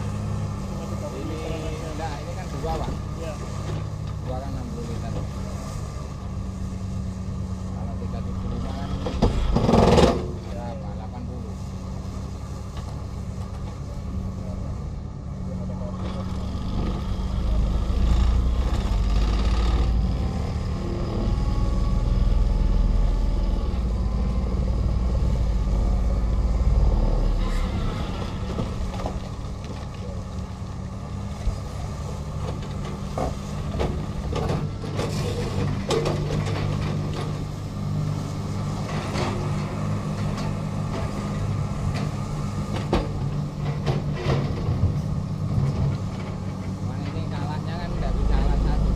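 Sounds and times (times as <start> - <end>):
excavator diesel engine under load: 0.0 - 48.9
heavy low rumble: 0.0 - 48.9.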